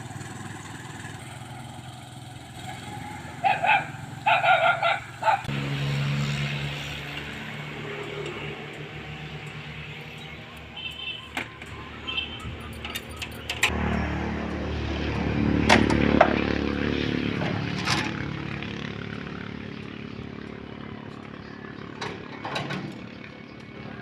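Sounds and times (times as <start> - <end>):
vehicle engine rumble passing: 0.0 - 24.0.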